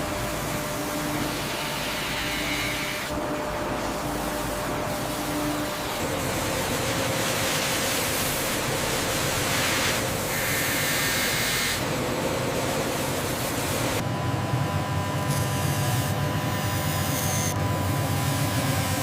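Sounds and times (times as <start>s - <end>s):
faint machinery hum: 0.0s - 19.0s.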